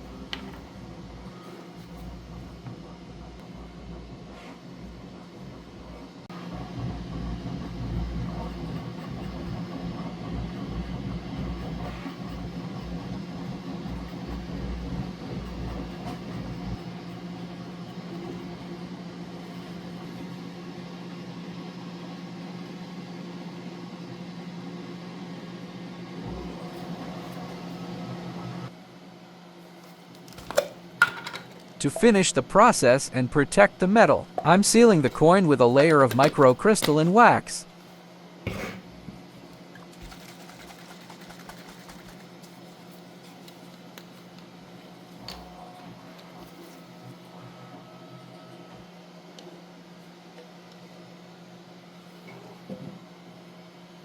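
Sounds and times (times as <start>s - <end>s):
steady low hum: 0.0s - 22.1s, 26.2s - 47.8s.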